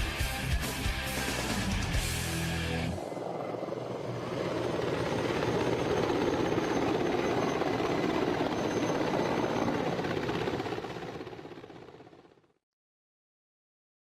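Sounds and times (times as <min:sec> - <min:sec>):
helicopter rotor beating: 0:00.9 - 0:12.6.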